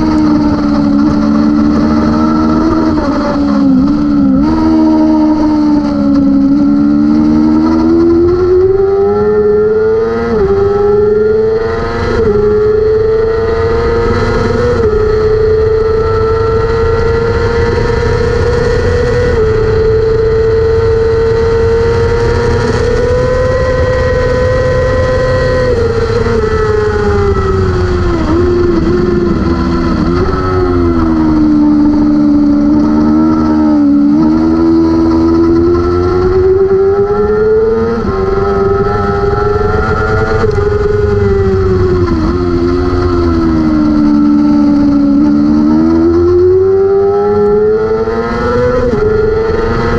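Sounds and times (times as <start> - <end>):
heavy wind rush: 0.0 - 49.9
motorcycle engine revving high: 0.0 - 49.9.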